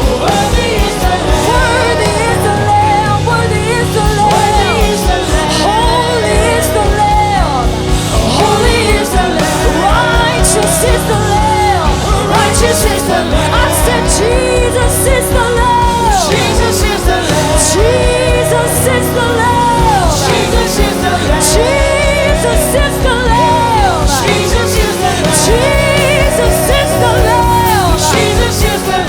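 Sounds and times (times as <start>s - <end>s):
lead singer singing: 0.0s - 29.0s
live band playing: 0.0s - 29.0s
steady drum beat: 0.0s - 29.0s.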